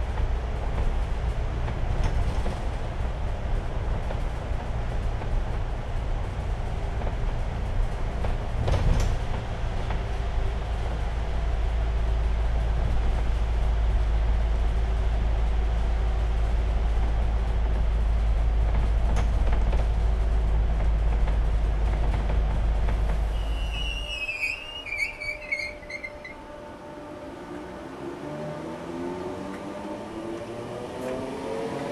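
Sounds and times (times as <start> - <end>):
bus engine and tyres rumbling: 0.0 - 31.9.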